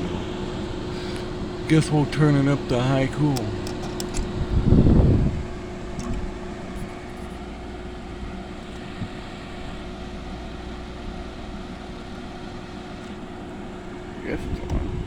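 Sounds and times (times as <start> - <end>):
window air conditioner humming: 0.0 - 15.0.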